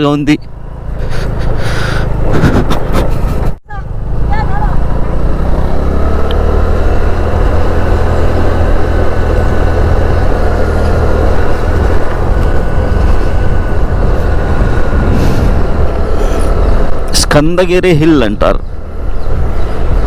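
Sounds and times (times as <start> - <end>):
motorcycle engine rumbling: 0.0 - 20.0
road noise: 0.0 - 20.0.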